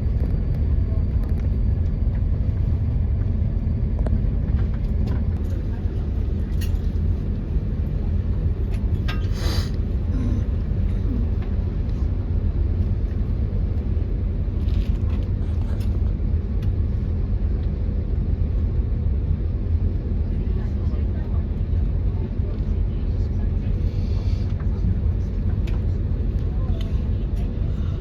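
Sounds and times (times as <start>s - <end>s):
constant hum: 0.0s - 28.0s
ferry machinery drone: 0.0s - 28.0s.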